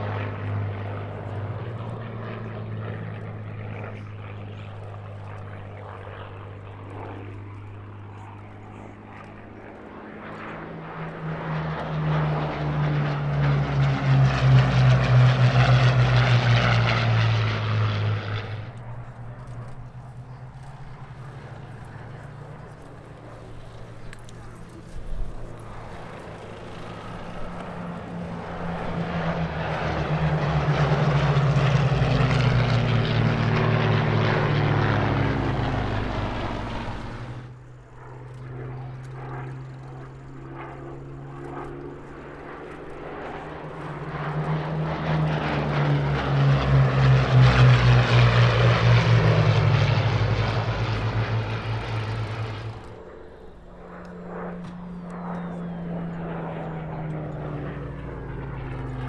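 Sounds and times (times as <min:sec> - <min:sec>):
propeller aircraft flying past: 0:00.0 - 0:59.0.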